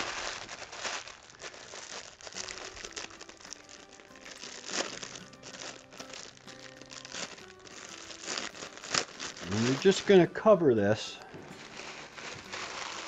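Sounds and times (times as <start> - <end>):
crackers crunching in paper wrapper: 0.0 - 13.0
quiet music of held notes: 1.4 - 13.0.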